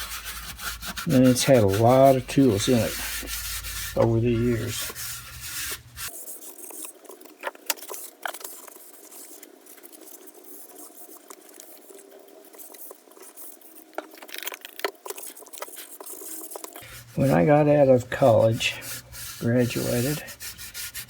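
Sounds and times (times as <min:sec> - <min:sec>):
scratching on metal tray: 0:00.0 - 0:21.0.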